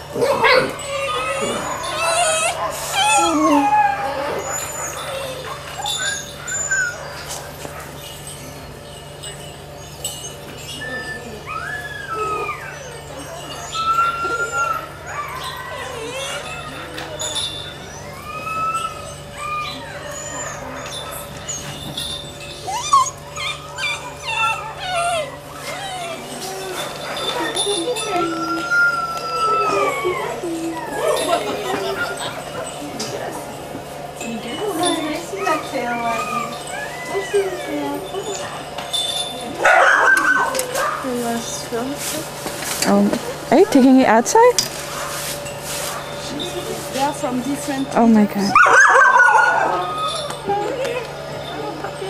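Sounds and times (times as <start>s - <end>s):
dogs whining and howling: 0.0s - 52.0s.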